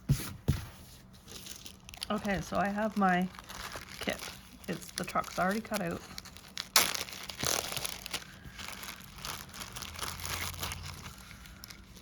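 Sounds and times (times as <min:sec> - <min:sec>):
plastic crinkling: 0:01.2 - 0:12.0.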